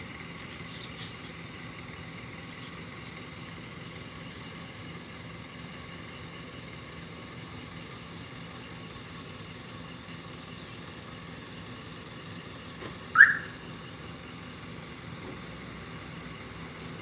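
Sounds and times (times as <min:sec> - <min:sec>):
street ambience: 0:00.0 - 0:17.0.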